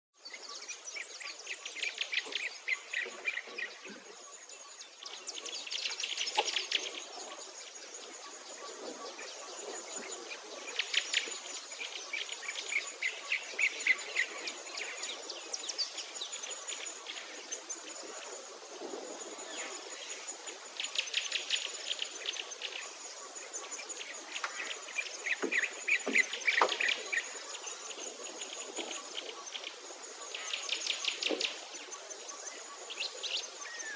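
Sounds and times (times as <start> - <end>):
small birds chirping: 0.2 - 33.9
high insect drone: 0.3 - 33.9.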